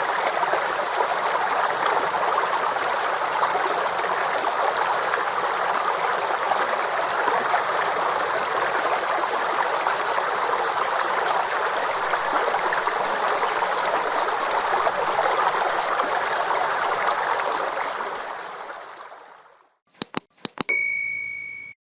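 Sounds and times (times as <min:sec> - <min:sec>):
water stream rushing: 0:00.0 - 0:19.2.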